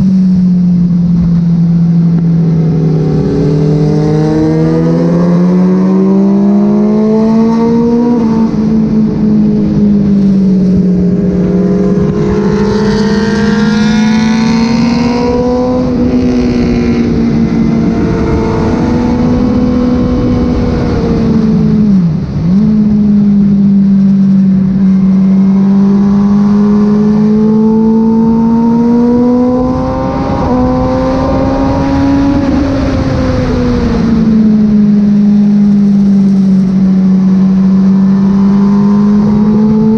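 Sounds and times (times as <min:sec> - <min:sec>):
motorcycle engine at part throttle: 0:00.0 - 0:39.9.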